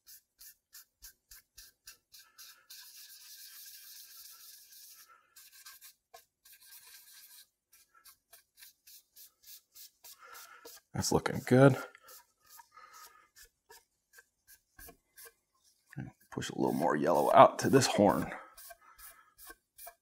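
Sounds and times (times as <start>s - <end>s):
cloth rag rubbing on wood: 0.0s - 20.0s.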